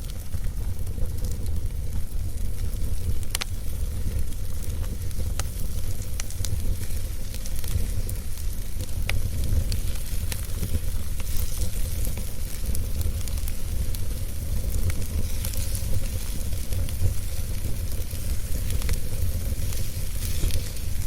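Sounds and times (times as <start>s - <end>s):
low rumble of burning: 0.0s - 21.0s
wood fire crackling: 0.0s - 21.0s.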